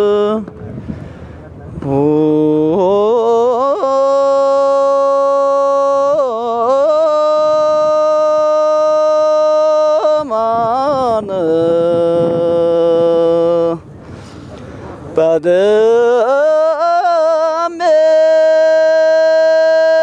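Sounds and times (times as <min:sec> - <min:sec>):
person singing a slow chant: 0:00.0 - 0:00.9, 0:01.8 - 0:13.9, 0:15.1 - 0:20.0.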